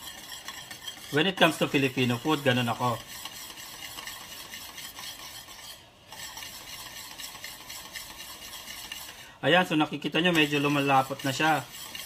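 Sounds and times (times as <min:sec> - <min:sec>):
whisk stirring against metal pan: 0:00.0 - 0:12.0.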